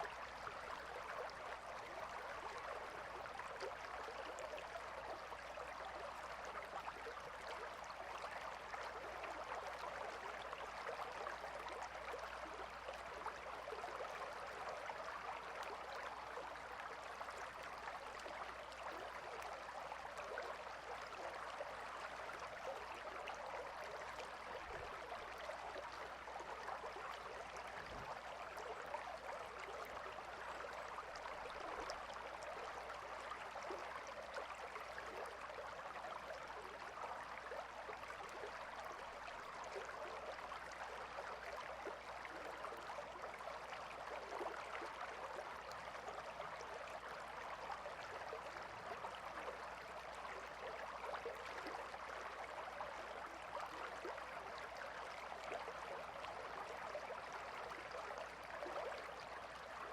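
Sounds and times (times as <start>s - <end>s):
river water trickling over stones: 0.0s - 59.9s.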